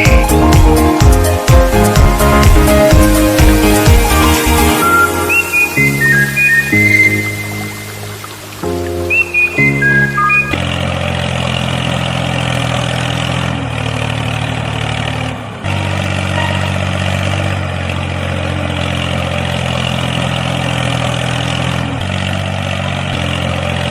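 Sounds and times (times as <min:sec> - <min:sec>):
engine idling with low hum: 0:00.0 - 0:23.9.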